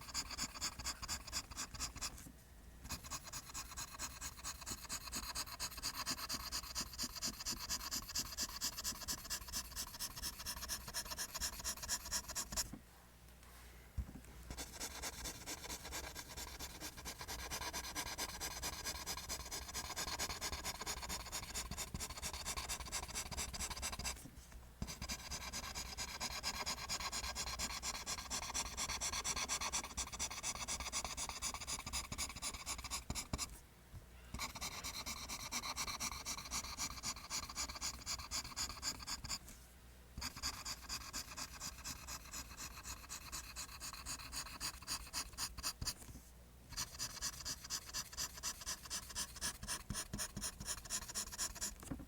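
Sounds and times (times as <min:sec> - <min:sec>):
pencil scratching on paper: 0:00.0 - 0:02.2, 0:02.9 - 0:12.7, 0:14.5 - 0:24.2, 0:24.8 - 0:33.5, 0:34.4 - 0:39.4, 0:40.2 - 0:46.1, 0:46.7 - 0:52.0.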